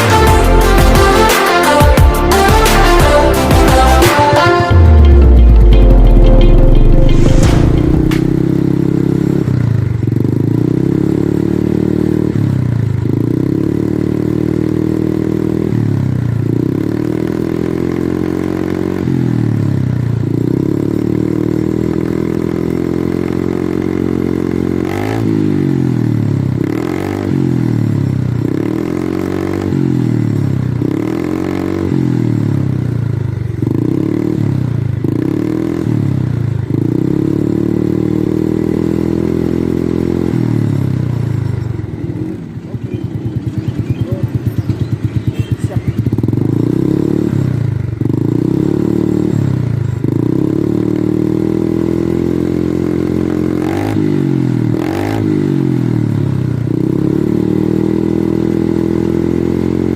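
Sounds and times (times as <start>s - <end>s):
scooter engine revving: 0.0s - 59.9s.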